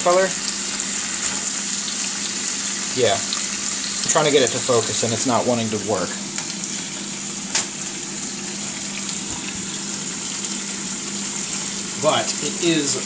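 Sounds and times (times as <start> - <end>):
stir fry sizzling in a skillet: 0.0 - 13.0.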